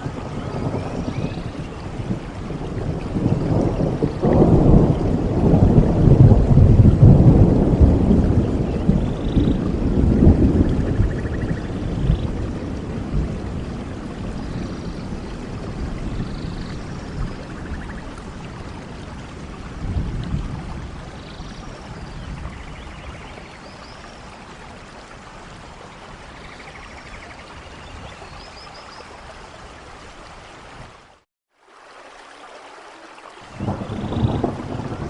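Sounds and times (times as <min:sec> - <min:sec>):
low thunder rumbling: 0:00.0 - 0:27.1, 0:33.6 - 0:35.0
rain falling in forest: 0:00.0 - 0:35.0.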